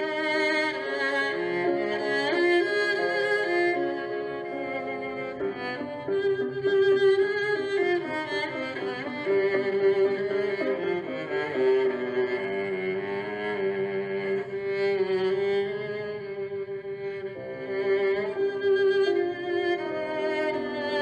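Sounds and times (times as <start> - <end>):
violin and cello slow notes: 0.0 - 21.0.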